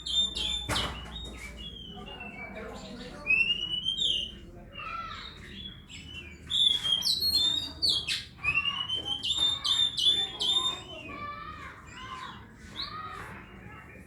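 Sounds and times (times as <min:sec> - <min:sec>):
songbird whistling and chirping: 0:00.0 - 0:11.3.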